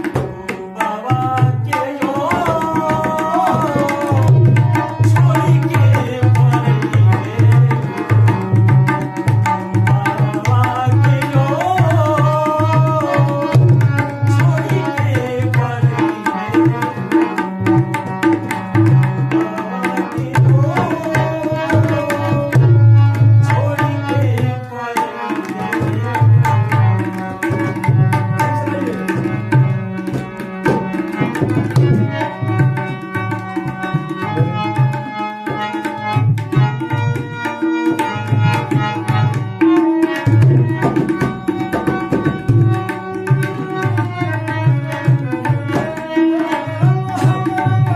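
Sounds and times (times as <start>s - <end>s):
hand drum rhythm: 0.0s - 47.9s.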